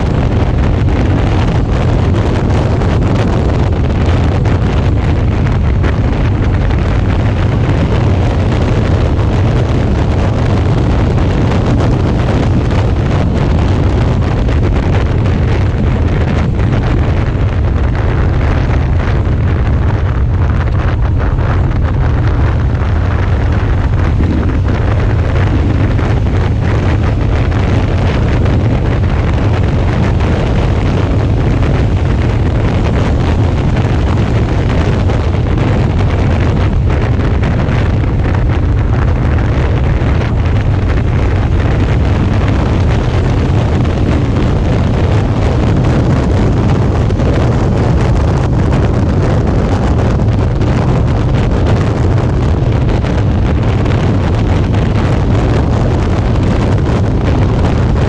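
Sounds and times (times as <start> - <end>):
motorcycle engine running: 0.0 - 58.0
road noise: 0.0 - 58.0
wind buffeting microphone: 0.0 - 58.0.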